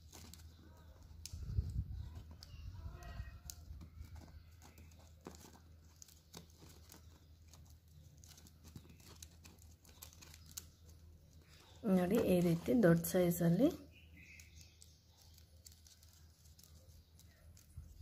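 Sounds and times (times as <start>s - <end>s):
plastic wire rubbing and clicking: 0.0s - 18.0s.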